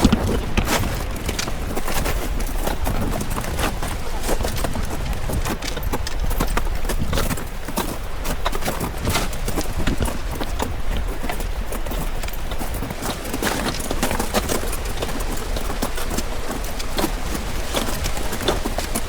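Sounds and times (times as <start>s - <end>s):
footsteps crunching on ice: 0.0s - 19.0s.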